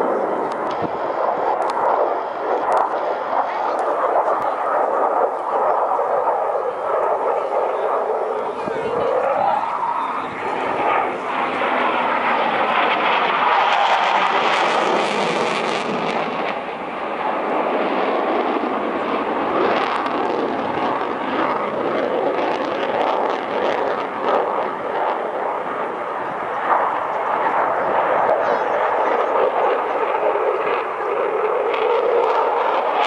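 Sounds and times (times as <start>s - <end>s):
jet flying past: 0.0s - 33.0s.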